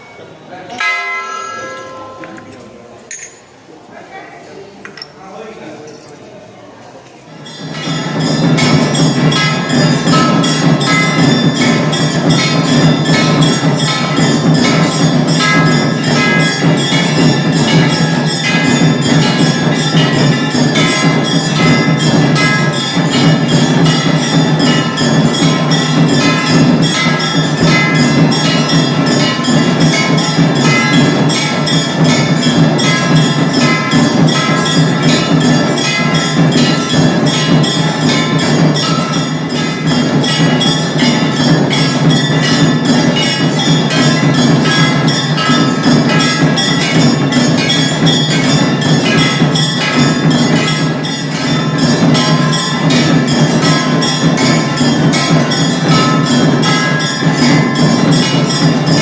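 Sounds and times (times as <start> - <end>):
bell and percussion music: 0.0 - 3.6, 4.8 - 59.0.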